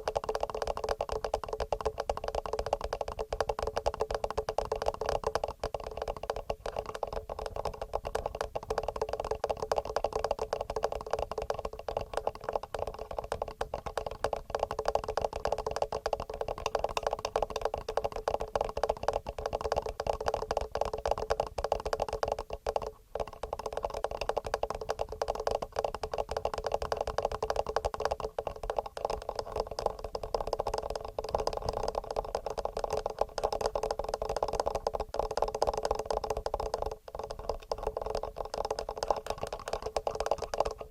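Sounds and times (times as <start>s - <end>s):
fingernails tapping on recorder: 0.0s - 40.9s.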